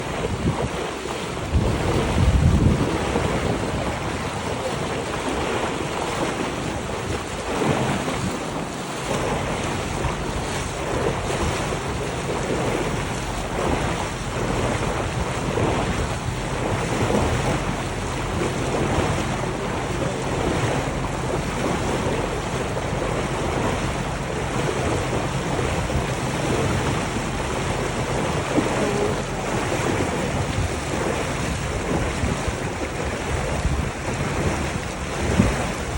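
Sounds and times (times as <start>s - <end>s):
low engine hum: 0.0s - 35.9s
water rushing along hull: 0.0s - 35.9s
wind buffeting microphone: 0.0s - 35.9s.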